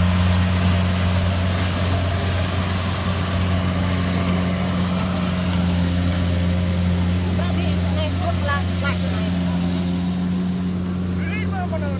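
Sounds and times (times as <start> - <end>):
diesel engine humming: 0.0 - 11.9.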